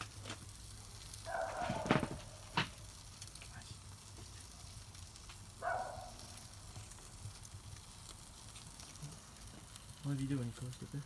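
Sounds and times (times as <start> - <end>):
wood fire crackling and hissing: 0.0 - 11.0.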